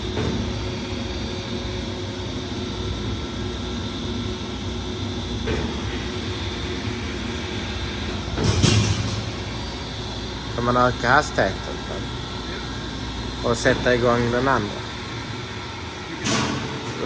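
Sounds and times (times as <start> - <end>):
grinder machine drone: 0.0 - 17.0
high machine whine: 0.0 - 17.0.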